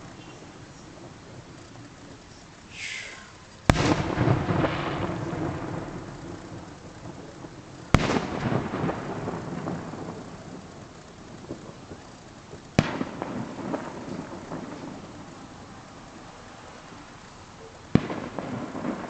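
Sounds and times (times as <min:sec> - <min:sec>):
falling firework hiss: 0:00.0 - 0:19.0
firework bang with rolling echo: 0:00.0 - 0:19.0.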